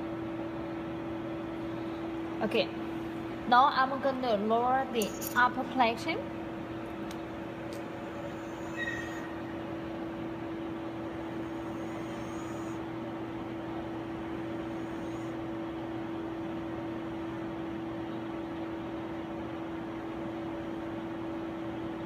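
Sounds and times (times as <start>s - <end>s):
lab equipment machine hum: 0.0s - 22.0s.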